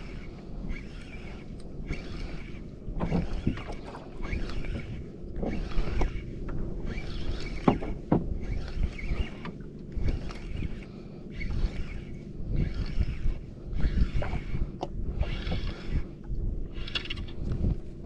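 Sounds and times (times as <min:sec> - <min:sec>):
low wind rumble: 0:00.0 - 0:18.0.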